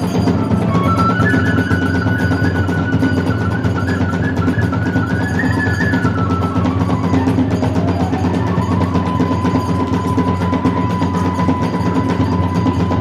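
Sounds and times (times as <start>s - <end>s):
bamboo flute melody: 0.0s - 13.0s
drum beating: 0.0s - 13.0s
hand cymbal beating: 0.0s - 13.0s.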